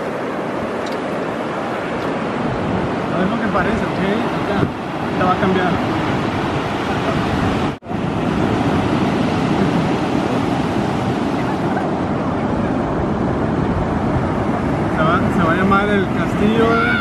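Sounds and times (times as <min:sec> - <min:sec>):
ocean surf breaking: 0:00.0 - 0:17.0
wind on microphone: 0:00.0 - 0:17.0.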